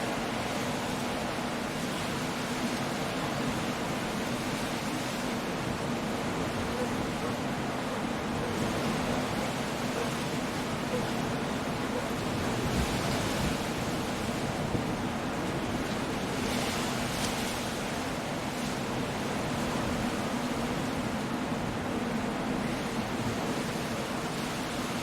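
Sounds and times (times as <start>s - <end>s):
steady wind: 0.0s - 25.0s.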